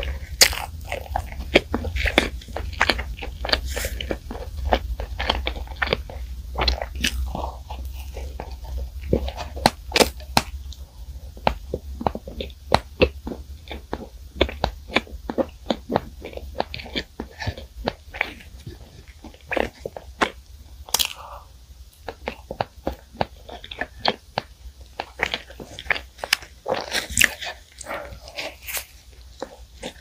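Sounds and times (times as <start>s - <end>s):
chewing crusty bread: 0.0s - 30.0s.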